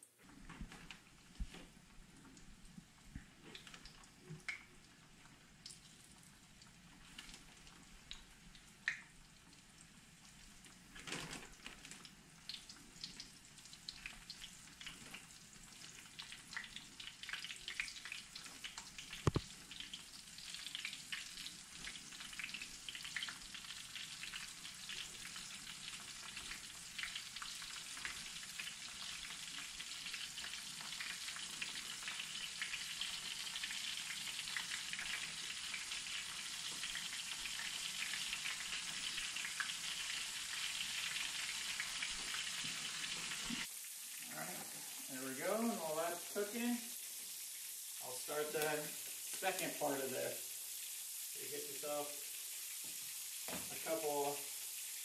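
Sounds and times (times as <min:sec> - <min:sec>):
fish frying in oil: 0:01.1 - 0:55.0.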